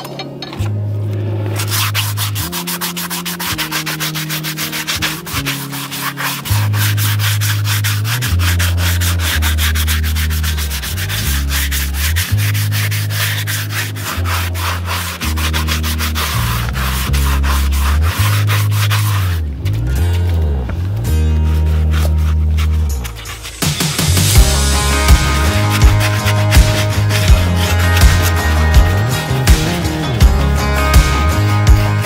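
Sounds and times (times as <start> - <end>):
low background music: 0.0 - 32.0
rasp scraping hoof: 0.0 - 32.0.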